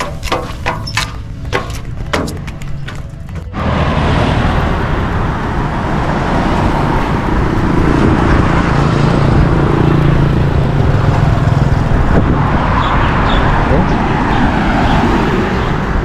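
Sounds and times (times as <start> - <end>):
loud rushing noise: 0.0 - 16.0.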